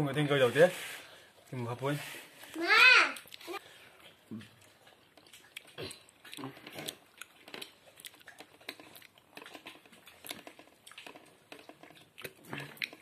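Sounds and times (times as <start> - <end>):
child chewing: 2.4 - 13.0.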